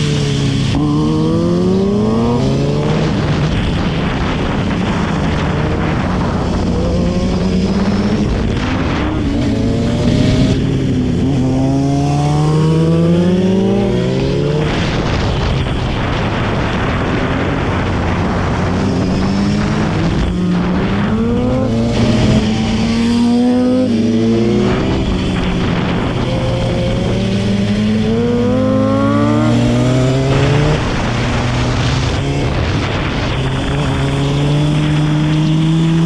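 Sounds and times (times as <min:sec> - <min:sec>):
motorcycle engines accelerating: 0:00.0 - 0:36.0.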